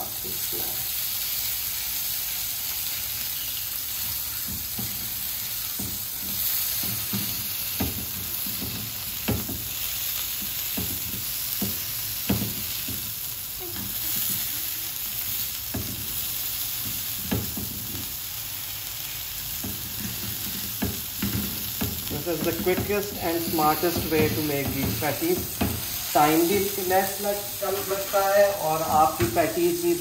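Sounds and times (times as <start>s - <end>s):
meat patties sizzling in oil: 0.0s - 30.0s.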